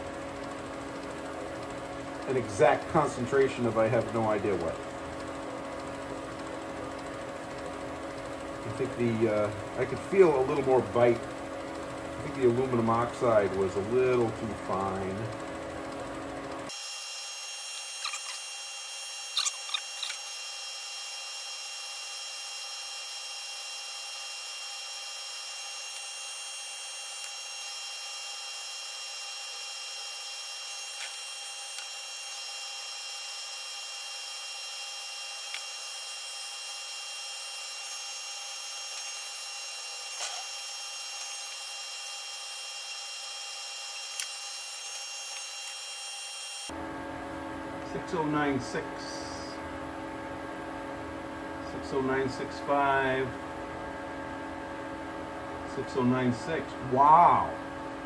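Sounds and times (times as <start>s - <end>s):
metal lathe whining: 0.0s - 46.7s.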